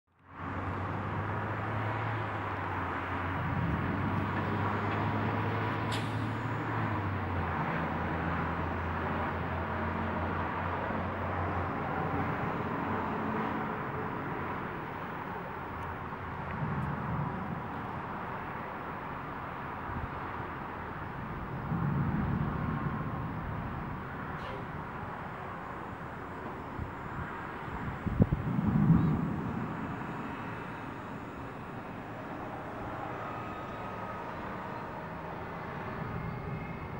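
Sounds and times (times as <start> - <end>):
vehicle engine low hum: 0.2 - 36.9
city traffic hiss: 0.3 - 36.9.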